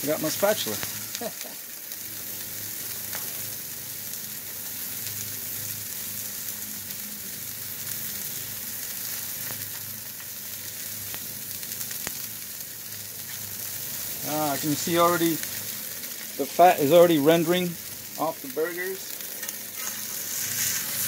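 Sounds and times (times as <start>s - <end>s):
burger patties sizzling on griddle: 0.0s - 21.0s.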